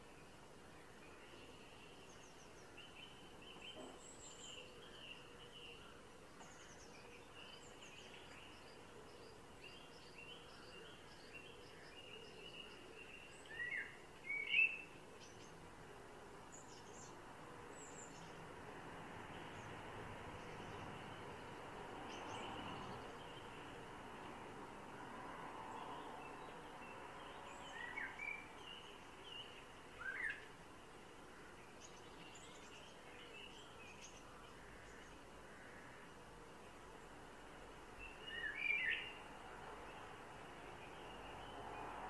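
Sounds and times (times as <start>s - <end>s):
faint background hiss: 0.0s - 42.0s
songbirds twittering: 0.0s - 42.0s.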